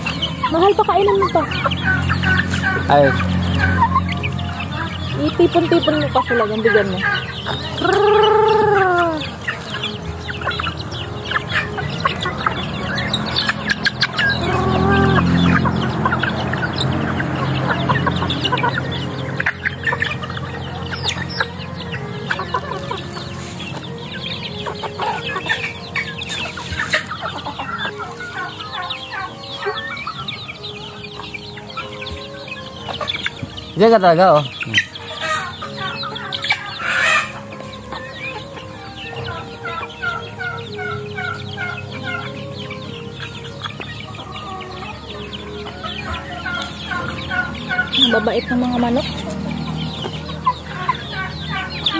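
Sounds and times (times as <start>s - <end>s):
chickens clucking and calling: 0.0s - 51.9s.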